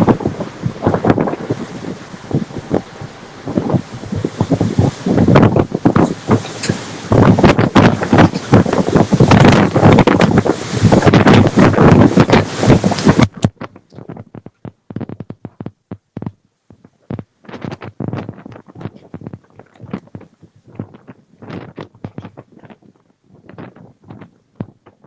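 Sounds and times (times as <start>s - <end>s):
wind gusting on microphone: 0.0s - 25.0s.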